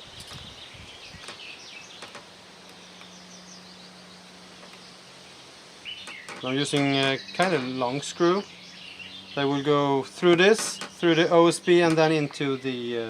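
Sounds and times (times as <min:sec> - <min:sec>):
low steady hum: 0:00.0 - 0:13.0
small birds chirping: 0:00.0 - 0:13.0.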